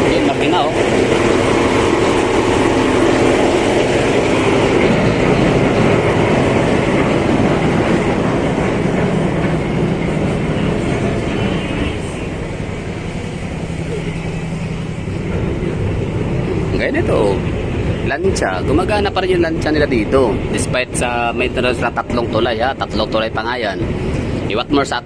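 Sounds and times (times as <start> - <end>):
rushing water noise: 0.0 - 22.7
ferry engine droning: 0.0 - 25.0.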